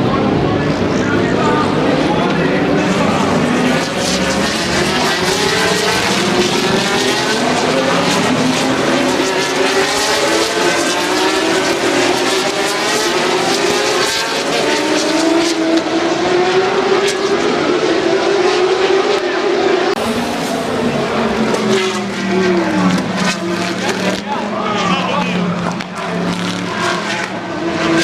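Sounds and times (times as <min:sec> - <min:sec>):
race car engines accelerating: 0:00.0 - 0:28.0.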